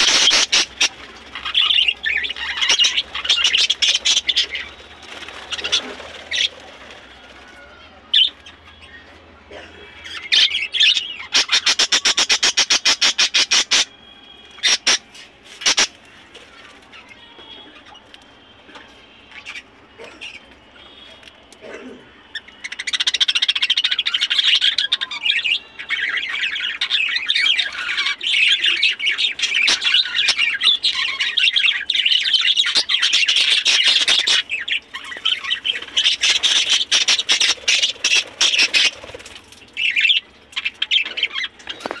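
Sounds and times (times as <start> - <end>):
budgerigars chattering and squawking: 0.0 - 14.0, 14.6 - 16.0, 19.3 - 42.0.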